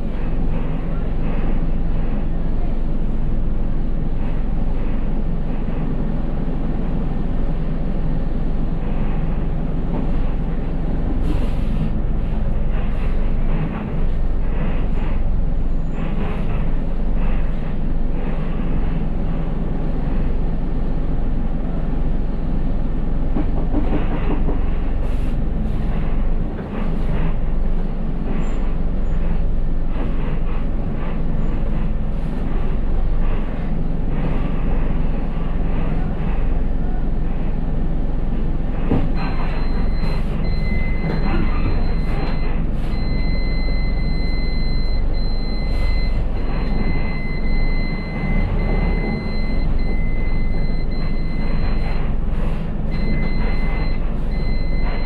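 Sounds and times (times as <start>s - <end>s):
bus engine rumble: 0.0s - 55.0s.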